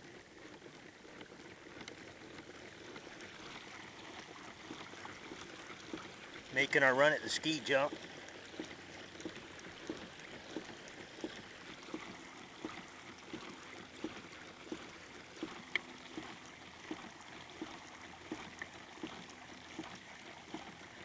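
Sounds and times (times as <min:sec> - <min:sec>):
paddle strokes in water: 0:00.0 - 0:21.0
water washing along hull: 0:00.0 - 0:21.0.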